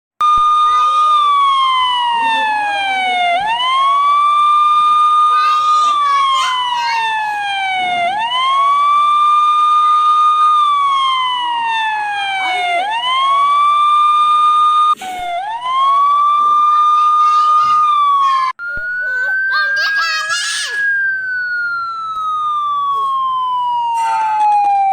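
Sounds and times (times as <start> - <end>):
police siren wailing: 0.2 - 24.9.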